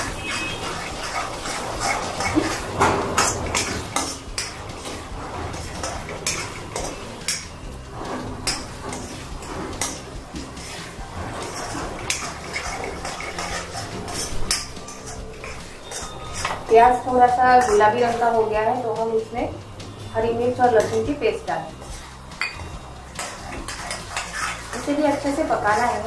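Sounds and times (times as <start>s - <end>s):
onions sauteing in oil: 0.0s - 26.0s
spatula scraping metal pan: 0.0s - 26.0s.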